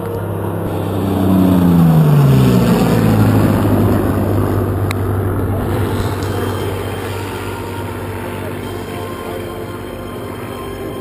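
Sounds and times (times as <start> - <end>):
jet engine noise: 0.0 - 11.0
piston engine aircraft drone: 0.0 - 11.0.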